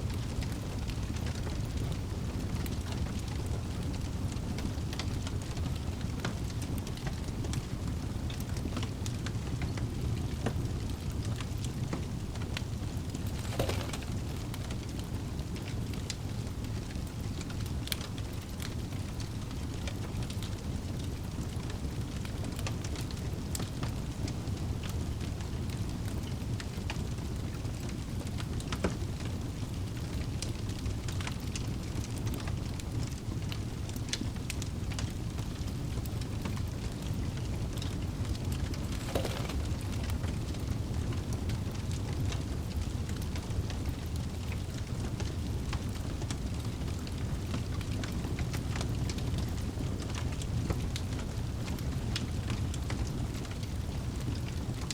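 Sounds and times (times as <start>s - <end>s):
fire crackling and popping: 0.0s - 54.9s.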